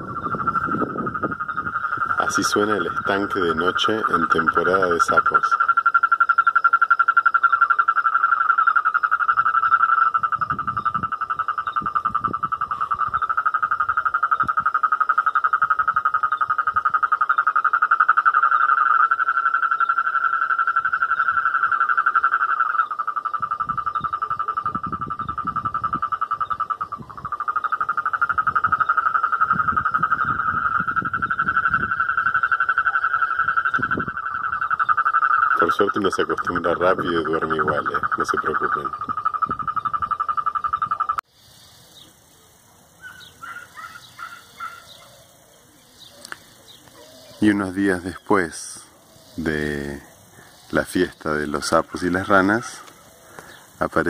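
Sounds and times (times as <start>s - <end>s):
chorus of toads and frogs trilling: 0.0s - 54.0s.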